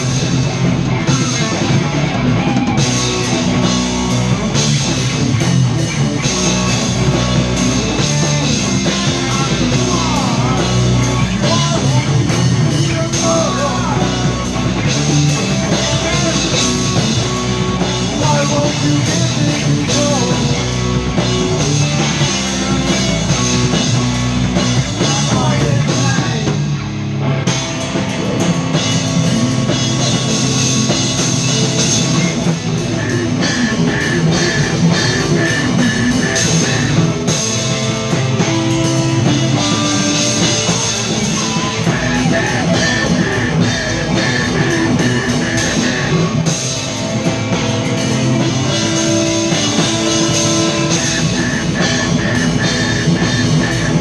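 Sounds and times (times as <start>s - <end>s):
drum kit with cymbals: 0.0s - 54.0s
electric bass: 0.0s - 54.0s
electric guitars: 0.0s - 54.0s.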